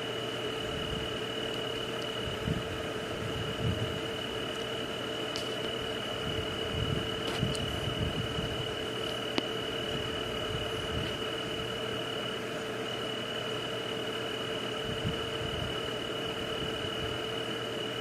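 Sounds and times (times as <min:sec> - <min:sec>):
high-pitched insect drone: 0:00.0 - 0:18.0
low steady hum: 0:00.0 - 0:18.0.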